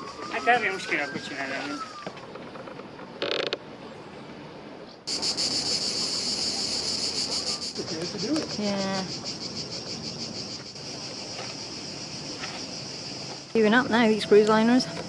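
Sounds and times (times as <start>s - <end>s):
cicadas buzzing: 0.0s - 4.1s, 5.0s - 15.0s.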